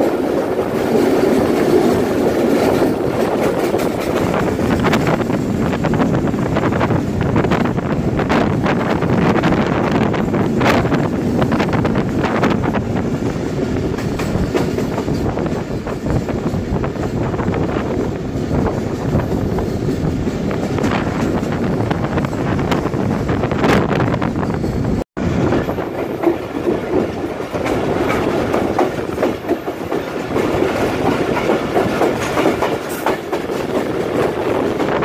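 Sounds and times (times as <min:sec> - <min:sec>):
train wheels rattling on track: 0:00.0 - 0:35.0.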